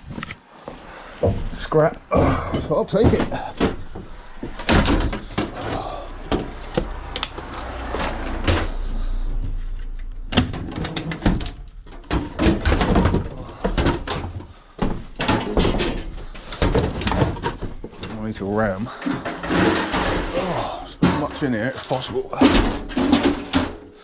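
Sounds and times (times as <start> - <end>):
scrap metal clanking and rattling: 1.3 - 24.0.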